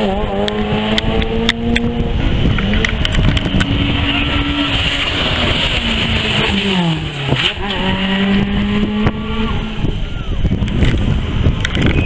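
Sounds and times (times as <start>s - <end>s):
rally car engine at high revs: 0.0s - 11.7s.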